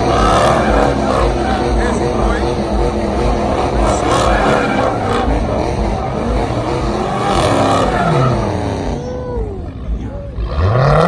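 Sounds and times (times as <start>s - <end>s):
car engine revving hard: 0.0s - 11.0s
tyres spinning: 0.0s - 11.0s.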